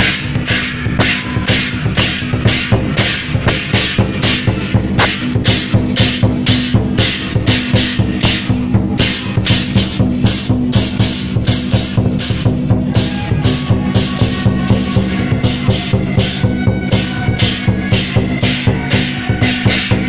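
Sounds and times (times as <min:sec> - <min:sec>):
cymbal crashes: 0:00.0 - 0:20.0
pounding drum beat: 0:00.0 - 0:20.0.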